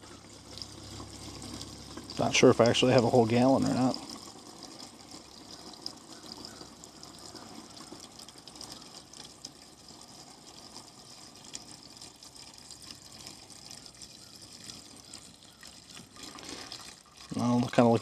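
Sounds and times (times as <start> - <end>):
gasoline pouring into container: 0.0 - 18.0.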